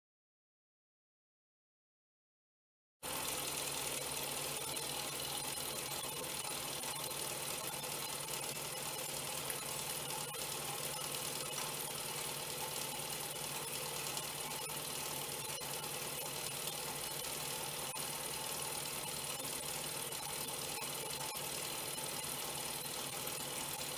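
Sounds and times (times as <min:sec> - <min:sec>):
toy steam engine running: 0:03.0 - 0:23.9.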